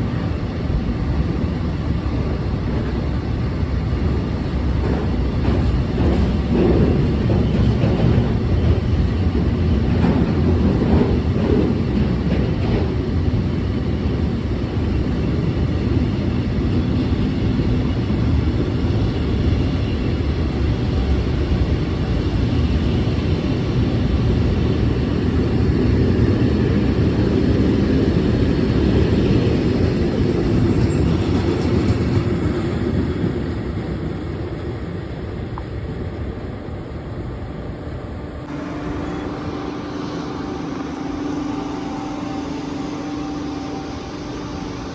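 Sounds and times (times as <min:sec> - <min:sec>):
train passing with rumble: 0:00.0 - 0:44.9.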